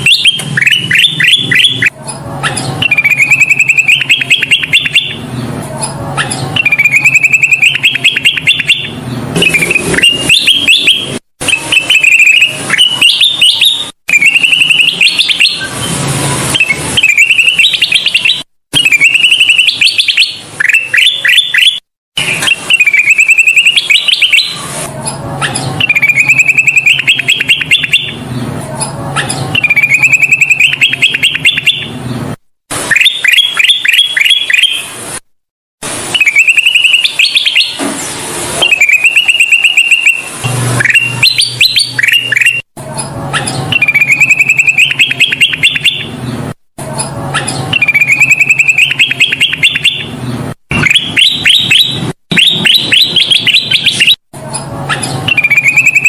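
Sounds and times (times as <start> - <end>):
bulbul singing: 0.0 - 32.1, 32.9 - 34.9, 36.1 - 37.8, 38.6 - 46.2, 47.0 - 56.0.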